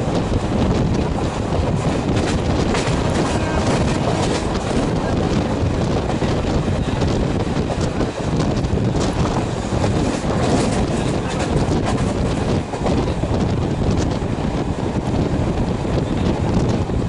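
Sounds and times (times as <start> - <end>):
train coach rumbling on rails: 0.0 - 17.0
wind buffeting microphone: 0.0 - 17.0.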